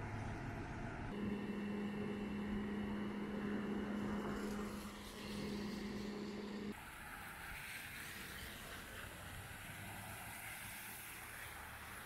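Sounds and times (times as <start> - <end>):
vehicle engine humming: 0.0 - 10.1.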